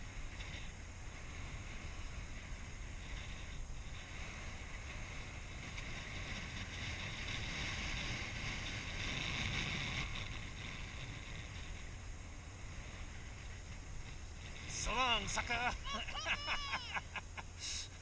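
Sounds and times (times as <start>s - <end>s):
skis gliding over packed snow: 0.0s - 18.0s
wind rumbling on microphone: 0.0s - 18.0s.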